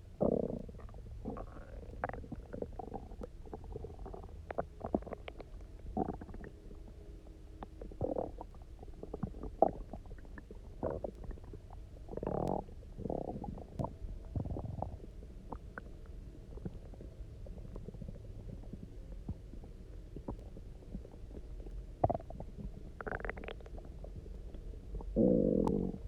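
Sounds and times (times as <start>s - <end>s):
stomach gurgling and rumbling: 0.0s - 26.0s.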